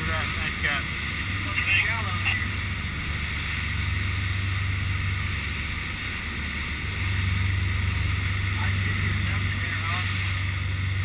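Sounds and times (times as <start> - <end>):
boat engines droning: 0.0 - 11.0
wind and water rushing: 0.0 - 11.0.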